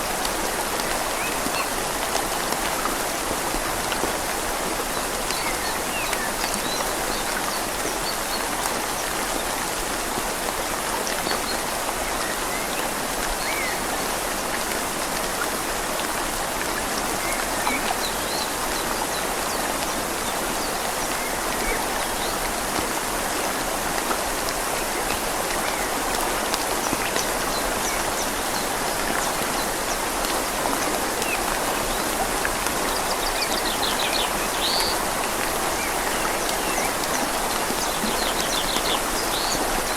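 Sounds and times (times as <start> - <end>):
rain falling on leaves: 0.0 - 39.9
river flowing: 0.0 - 39.9.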